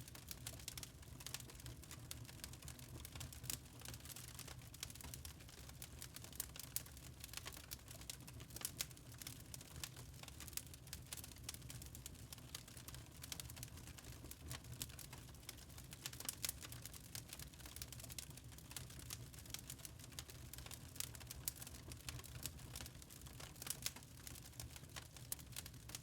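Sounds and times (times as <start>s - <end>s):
log fire crackling: 0.0s - 26.0s.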